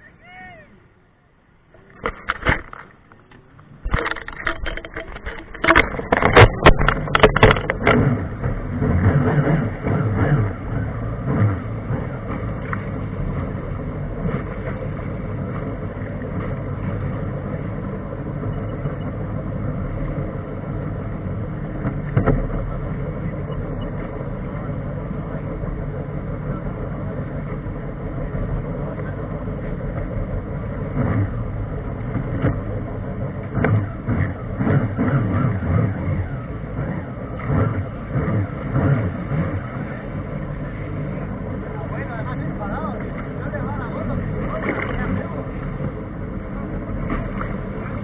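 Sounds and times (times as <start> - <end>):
jet ski engine running: 0.0 - 48.0.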